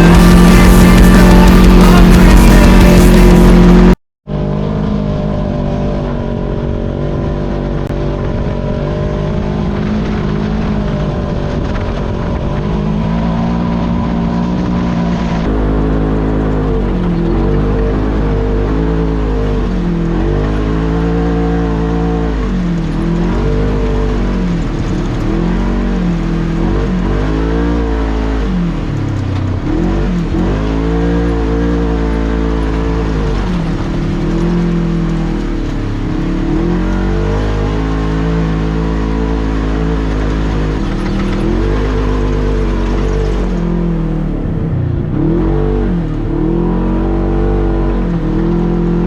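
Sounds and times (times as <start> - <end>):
off-road vehicle engine revving: 0.0 - 49.0.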